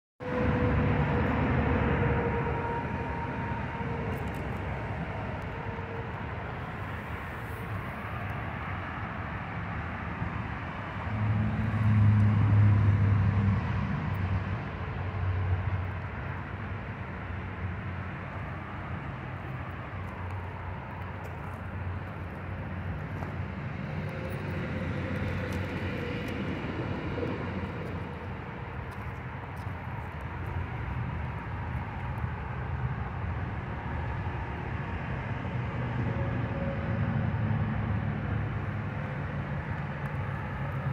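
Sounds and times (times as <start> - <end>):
distant engine rumble: 0.2 - 33.6.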